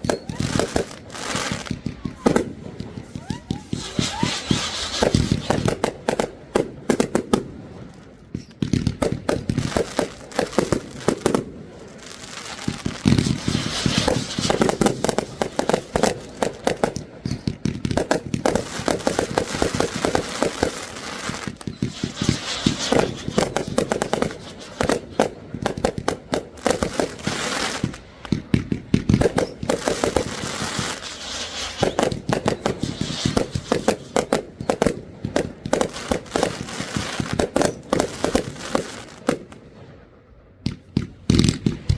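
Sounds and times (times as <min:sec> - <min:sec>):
fireworks crackling and banging: 0:00.0 - 0:41.9.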